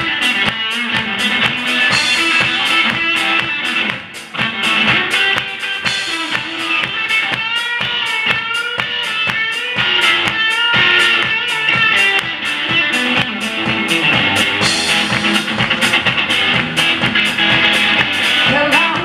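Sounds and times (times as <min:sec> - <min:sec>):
drum kit: 0:00.0 - 0:19.0
electric guitar lead with bends: 0:00.0 - 0:19.0.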